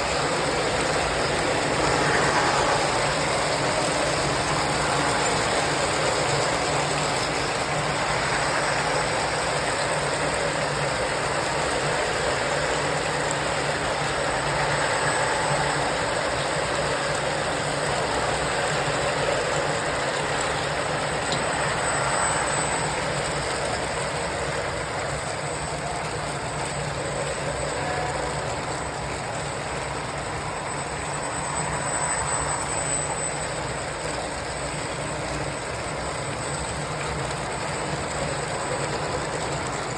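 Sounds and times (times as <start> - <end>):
model train motor hum: 0.0 - 39.9
train cars rolling: 0.0 - 39.9.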